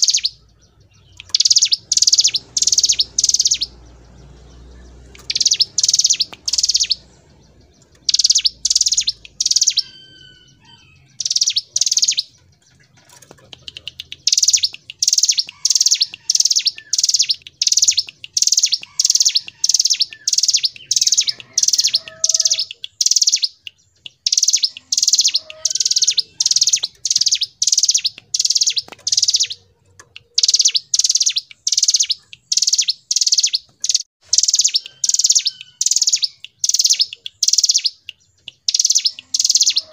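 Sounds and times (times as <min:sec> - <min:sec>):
bird singing rapid high notes: 0:00.0 - 0:39.9
faint lower bird chirps: 0:00.0 - 0:39.9.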